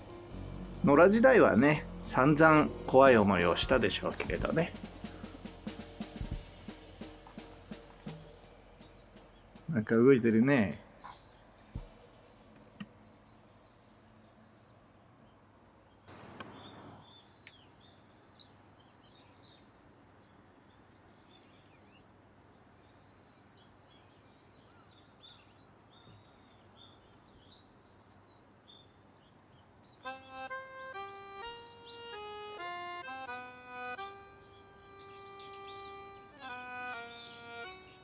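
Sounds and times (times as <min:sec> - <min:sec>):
faint outdoor hiss: 0:00.0 - 0:38.0
bird chirping: 0:00.7 - 0:38.0.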